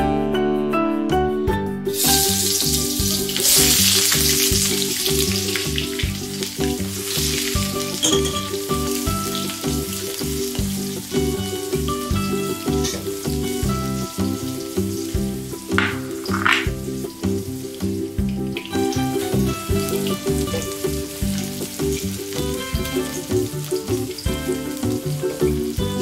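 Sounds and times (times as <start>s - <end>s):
background music: 0.0s - 26.0s
garlic sizzling in hot oil: 1.9s - 26.0s.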